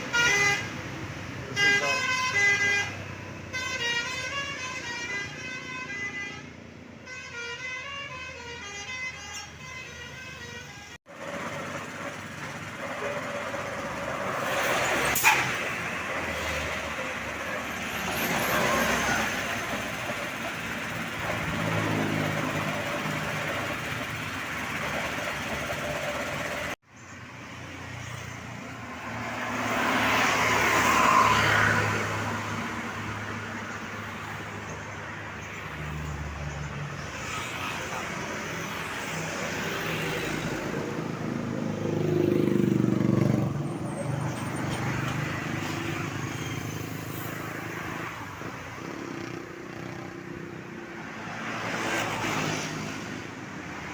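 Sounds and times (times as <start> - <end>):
road traffic engine and tyre noise: 0.0 - 53.9.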